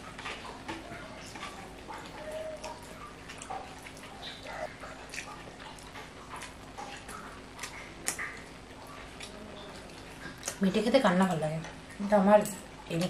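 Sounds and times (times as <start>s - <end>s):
chewing and lip-smacking: 0.0s - 10.7s.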